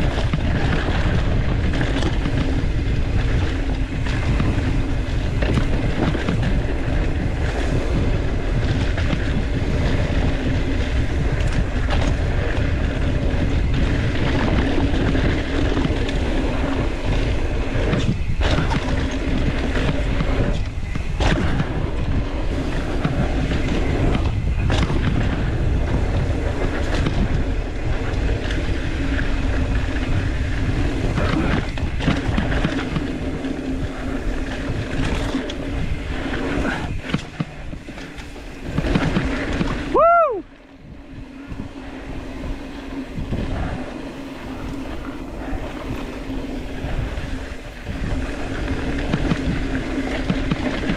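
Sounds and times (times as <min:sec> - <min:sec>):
bike tyres rolling on dirt trail: 0:00.0 - 0:50.9
wind rushing over microphone: 0:00.0 - 0:50.9.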